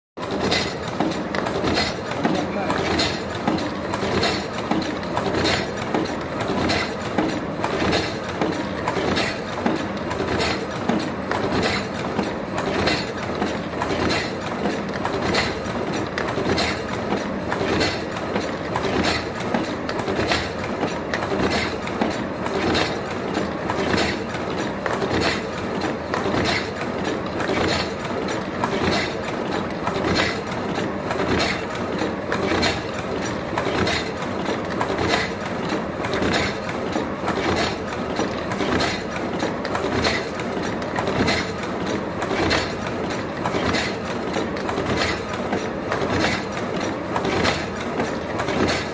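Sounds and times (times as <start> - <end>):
continuous mechanical noise: 0.2 - 48.9
machine clacking rhythmically: 0.2 - 48.9.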